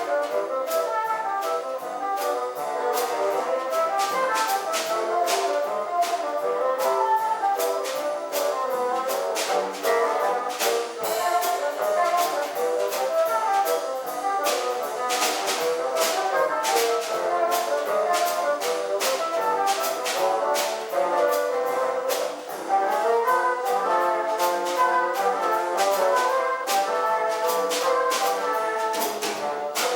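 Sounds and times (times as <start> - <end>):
sharp percussive strokes: 0.0 - 29.9
wind instruments playing melody: 0.0 - 29.9.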